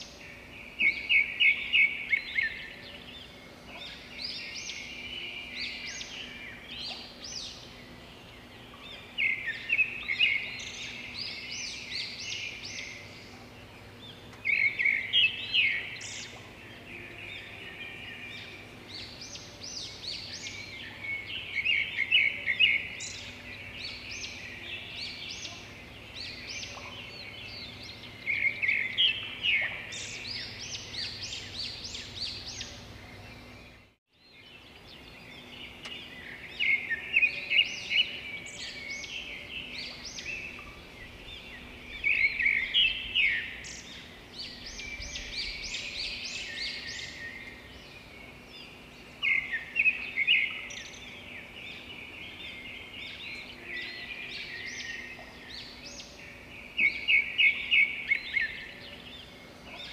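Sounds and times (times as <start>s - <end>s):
bird chirping: 0.0s - 59.9s
faint steady hum: 0.0s - 59.9s.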